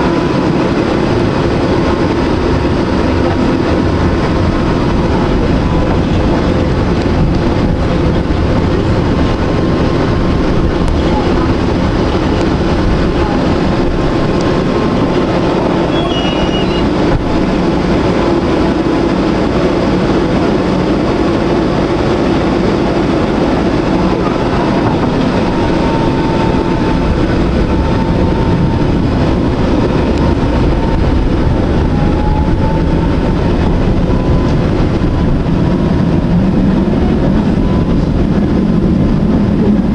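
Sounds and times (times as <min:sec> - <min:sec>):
tram wheels rumbling on rail: 0:00.0 - 0:39.9.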